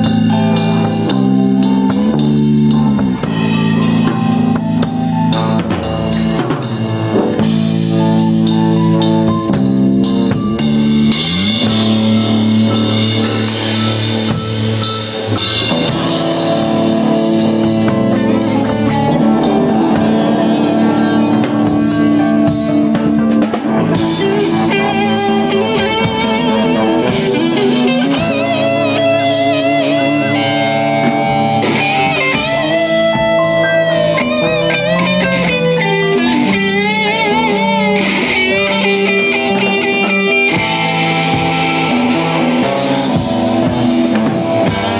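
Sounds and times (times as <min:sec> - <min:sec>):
lead guitar bent wavering notes: 0:00.0 - 0:44.9
rock band playing live: 0:00.0 - 0:44.9.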